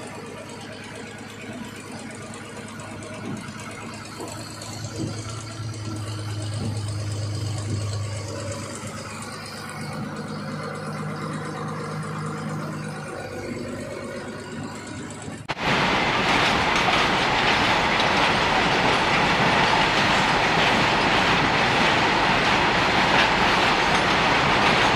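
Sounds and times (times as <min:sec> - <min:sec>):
truck engine humming: 0:00.0 - 0:24.9.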